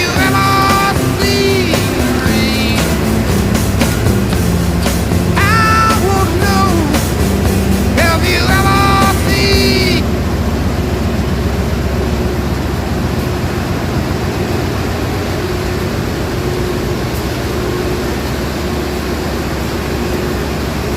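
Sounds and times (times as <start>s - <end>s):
low even rumble: 0.0s - 20.2s
heavy rain hissing: 0.0s - 20.9s.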